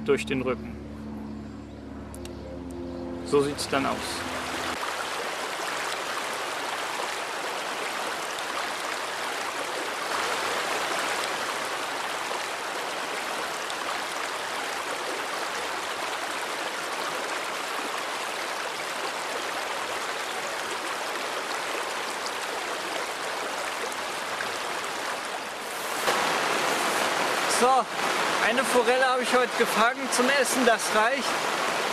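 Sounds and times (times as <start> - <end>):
river rushing over rocks: 4.7 - 31.9.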